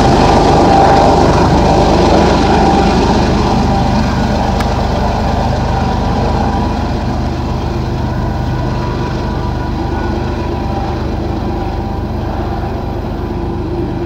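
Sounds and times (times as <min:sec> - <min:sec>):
locomotive engine drone: 0:00.0 - 0:14.0
wheels rumbling on rails: 0:00.0 - 0:14.0.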